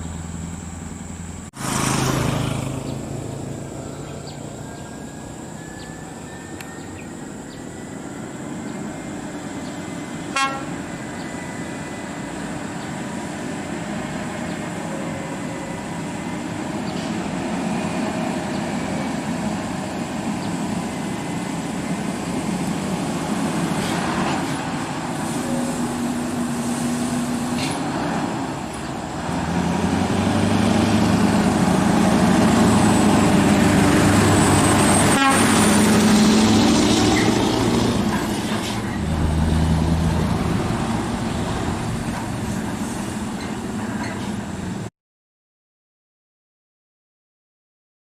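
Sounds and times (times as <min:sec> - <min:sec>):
truck diesel engine under load: 0:00.0 - 0:44.9.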